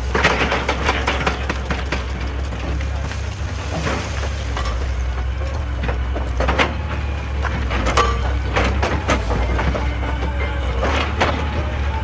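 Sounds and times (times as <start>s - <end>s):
excavator engine rumbling: 0.0s - 12.0s.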